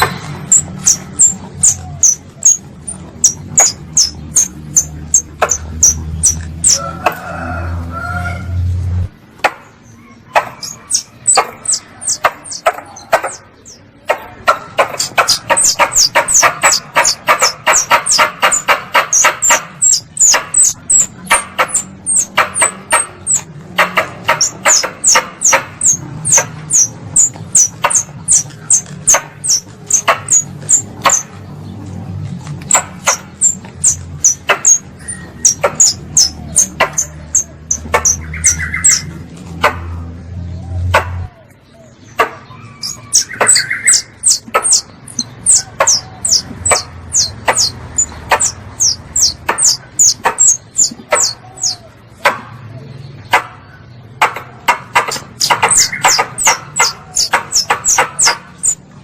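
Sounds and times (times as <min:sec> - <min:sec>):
high-pitched squirrel chirps: 0:00.0 - 0:06.8, 0:10.0 - 0:13.9, 0:14.6 - 0:31.3, 0:32.7 - 0:39.1, 0:42.6 - 0:52.0, 0:54.9 - 0:58.9
harsh chattering: 0:00.0 - 0:07.9, 0:09.1 - 0:40.3, 0:40.9 - 0:59.0.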